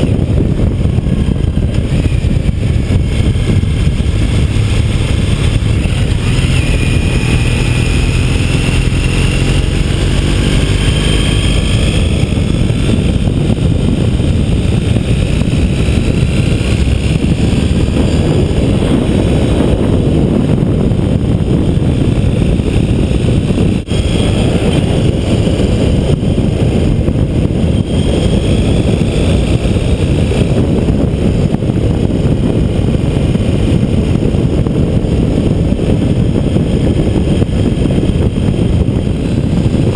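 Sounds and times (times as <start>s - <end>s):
vehicle engine and road rumble: 0.0s - 39.9s
wind noise on microphone: 0.0s - 39.9s.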